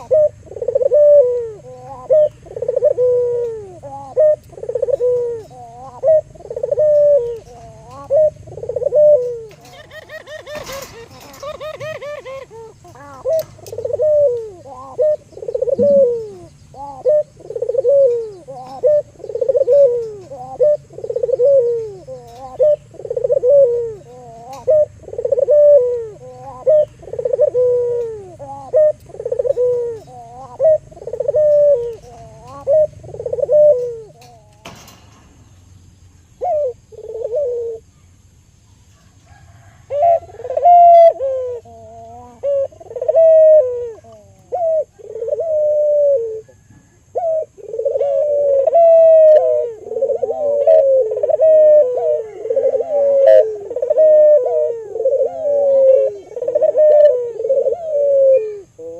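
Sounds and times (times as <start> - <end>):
dove cooing: 0.0 - 35.3, 36.3 - 38.1, 38.9 - 58.9.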